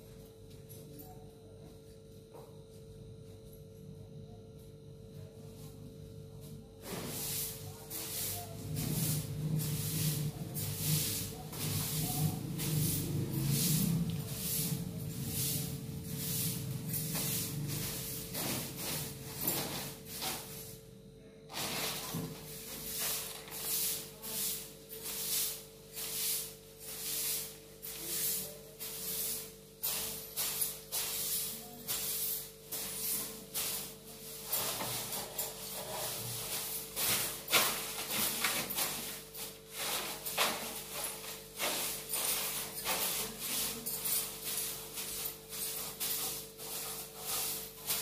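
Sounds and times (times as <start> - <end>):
broom sweeping a hard floor: 6.5 - 48.0.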